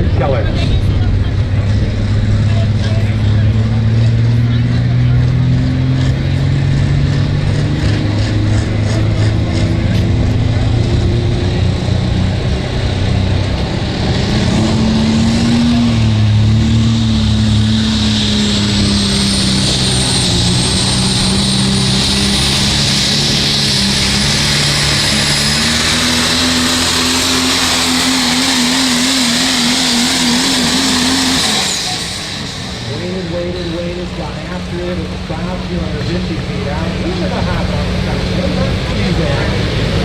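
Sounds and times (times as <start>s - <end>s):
diesel truck engine at full throttle: 0.0s - 40.0s.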